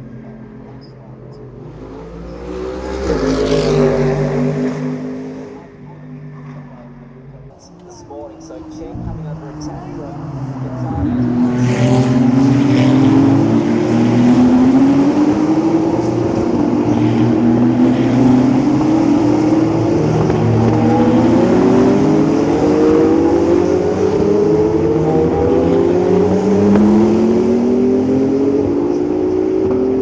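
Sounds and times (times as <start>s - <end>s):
race car engines accelerating: 0.0s - 30.0s.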